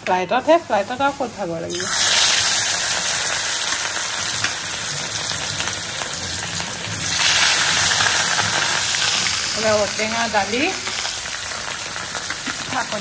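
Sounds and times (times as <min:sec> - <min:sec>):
fish sizzling in hot oil: 0:00.3 - 0:13.0.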